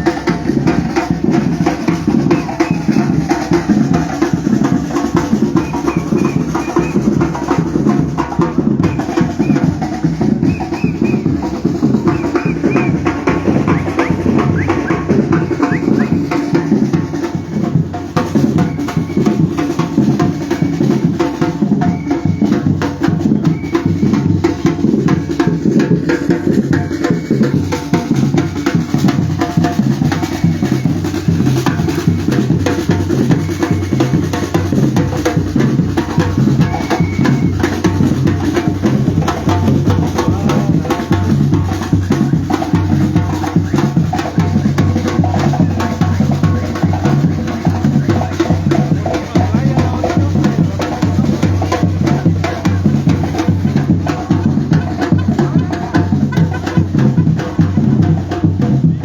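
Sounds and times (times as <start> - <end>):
bass drums: 0.0 - 59.0
snare drum: 0.0 - 59.0.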